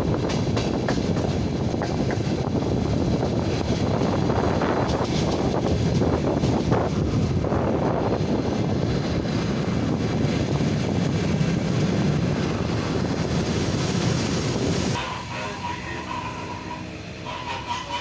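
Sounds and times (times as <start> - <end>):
train rushing at speed: 0.0 - 18.0.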